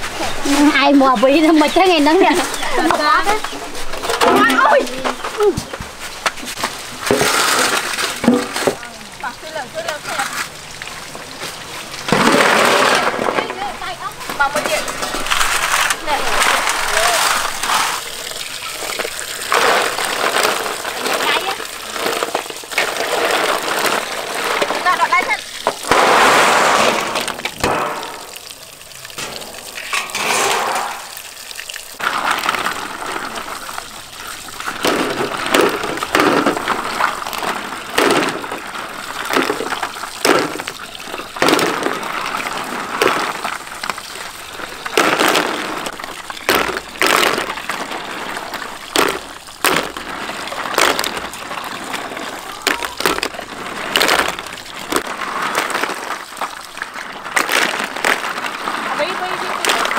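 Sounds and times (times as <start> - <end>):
snail shells clattering in metal basin: 0.0 - 10.6, 12.0 - 59.9
running tap water splashing: 0.0 - 59.9.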